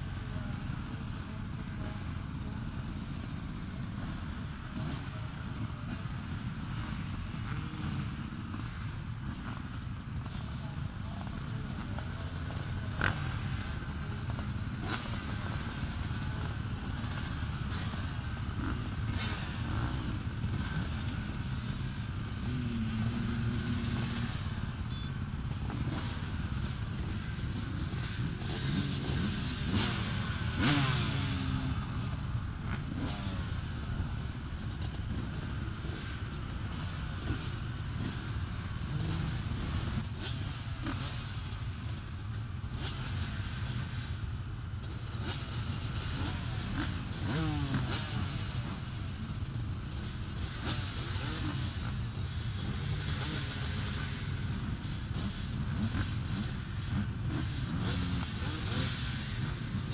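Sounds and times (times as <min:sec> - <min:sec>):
motocross bikes idling: 0:00.0 - 0:59.9.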